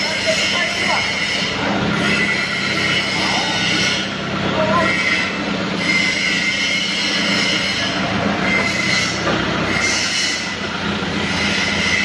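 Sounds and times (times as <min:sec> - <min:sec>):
forklift engine drone: 0:00.0 - 0:12.0
hydraulic whine: 0:00.0 - 0:12.0.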